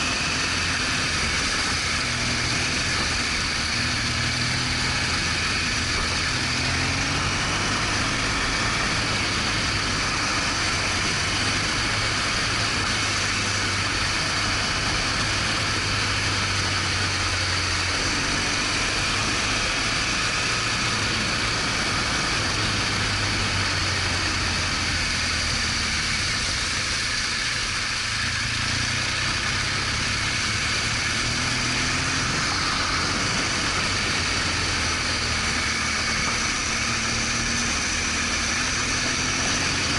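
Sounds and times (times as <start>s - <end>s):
motorcycle engine running: 0.0s - 39.9s
wind and road noise hiss: 0.0s - 39.9s.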